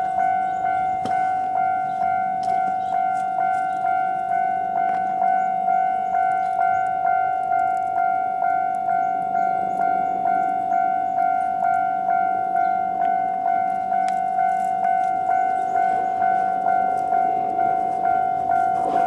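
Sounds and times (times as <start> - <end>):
level crossing electronic bell: 0.0 - 19.0.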